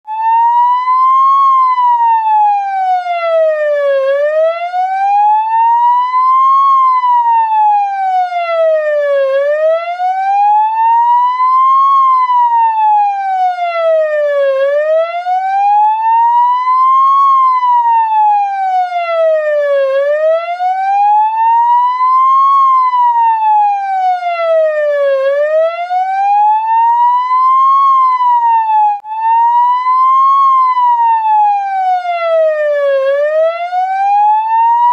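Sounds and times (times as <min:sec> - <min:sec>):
ambulance siren wailing: 0:00.0 - 0:34.9.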